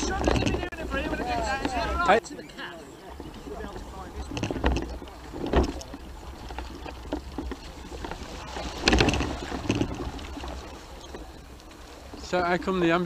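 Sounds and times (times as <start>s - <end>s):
wind rumble on microphone: 0.0s - 2.0s, 3.0s - 12.2s
splashing through shallow water: 0.0s - 13.0s.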